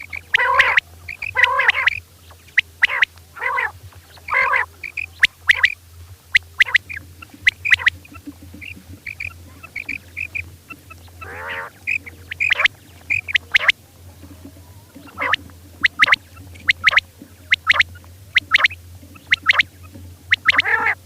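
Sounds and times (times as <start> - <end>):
harsh quail calls: 0.0 - 13.8, 14.9 - 21.0
quail chirping: 0.0 - 13.8, 14.9 - 21.0
low steady hum: 0.0 - 21.0.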